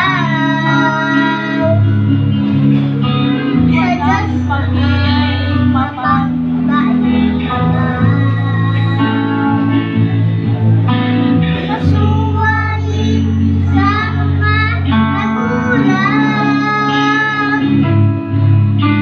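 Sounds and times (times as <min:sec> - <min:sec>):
boy singing through a microphone: 0:00.0 - 0:19.0
guitar accompaniment: 0:00.0 - 0:19.0.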